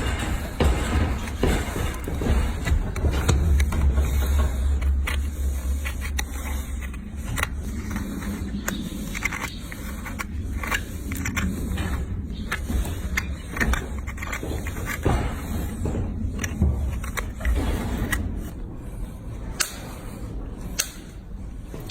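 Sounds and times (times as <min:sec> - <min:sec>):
steady low rumble: 0:00.0 - 0:21.9
tools scraping hoof horn: 0:00.0 - 0:21.9.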